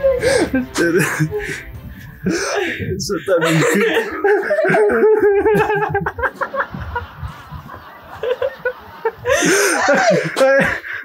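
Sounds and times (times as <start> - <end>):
man laughing: 0.1 - 1.6, 2.3 - 11.0.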